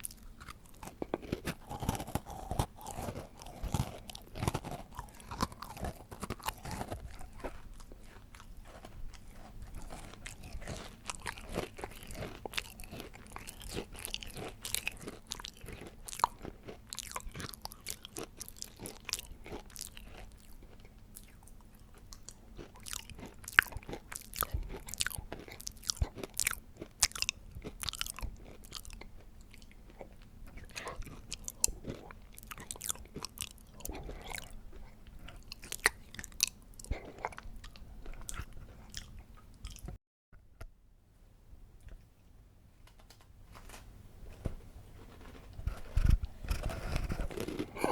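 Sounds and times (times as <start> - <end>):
person biting and chewing cake: 0.0 - 40.0, 45.0 - 47.9.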